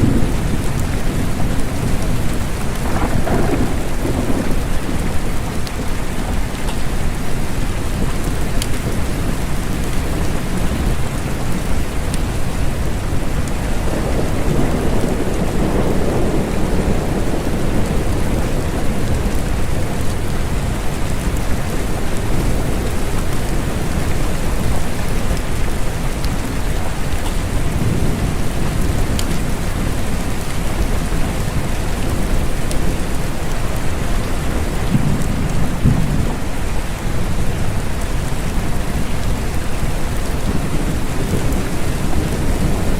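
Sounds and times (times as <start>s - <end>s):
steady rain falling: 0.0s - 42.9s
thunder rumbling: 0.0s - 42.9s.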